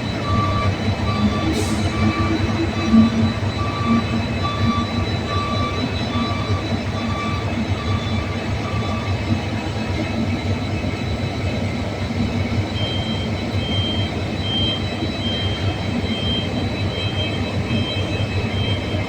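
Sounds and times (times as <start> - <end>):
diesel locomotive engine drone: 0.0 - 19.0
pulsing high tone: 0.0 - 19.0.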